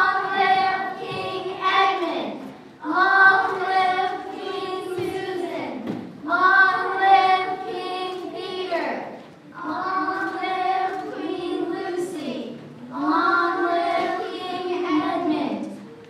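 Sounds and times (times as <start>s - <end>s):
young voices singing together: 0.0s - 16.0s.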